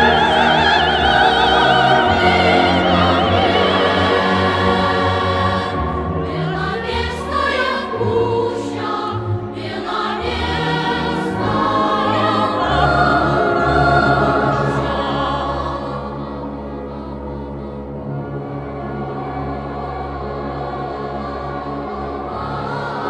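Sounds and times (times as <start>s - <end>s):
choir singing with vibrato: 0.0s - 23.0s.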